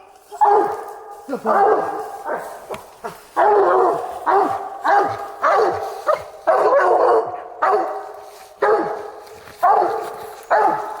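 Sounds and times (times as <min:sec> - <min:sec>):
hound barking: 0:00.3 - 0:11.0.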